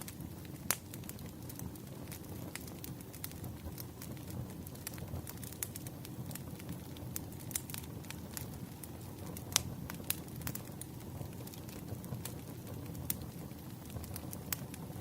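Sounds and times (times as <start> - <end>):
campfire flames rushing: 0.0 - 15.0
fire crackles and pops: 0.0 - 15.0.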